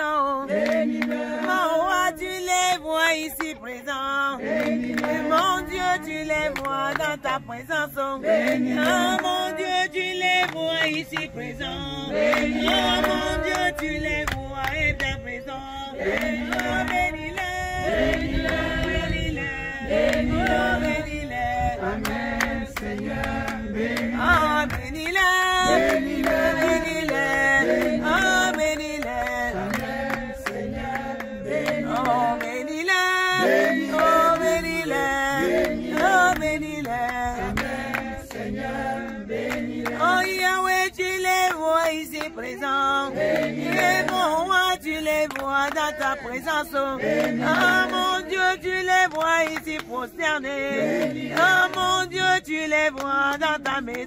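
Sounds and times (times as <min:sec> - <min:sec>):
voices singing prayer chant: 0:00.0 - 0:54.0.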